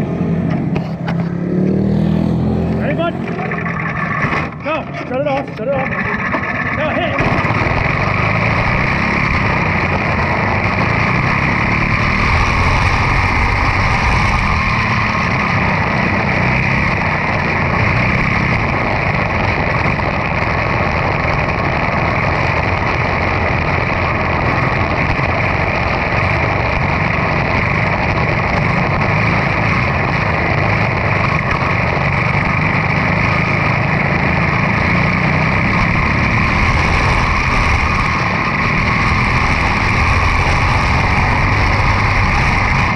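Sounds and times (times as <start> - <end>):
race car engine running steadily: 0.0 - 42.9.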